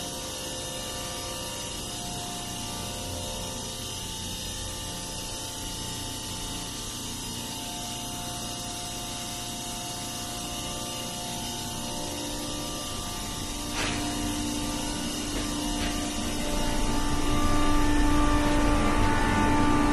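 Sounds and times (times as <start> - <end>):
machinery humming: 0.0 - 19.9.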